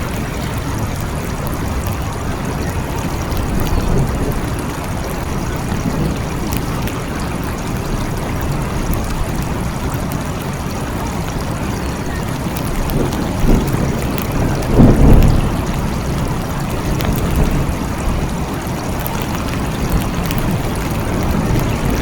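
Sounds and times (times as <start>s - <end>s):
raindrop ticks: 0.0s - 22.0s
steady rain: 0.0s - 22.0s
thunder rumble: 0.0s - 22.0s.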